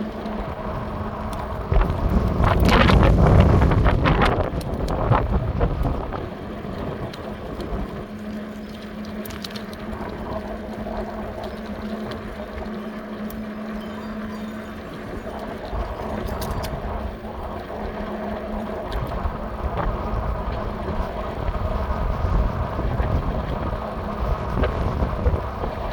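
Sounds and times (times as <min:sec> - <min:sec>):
steady low hum: 0:00.0 - 0:25.9
wind buffeting microphone: 0:00.0 - 0:25.9.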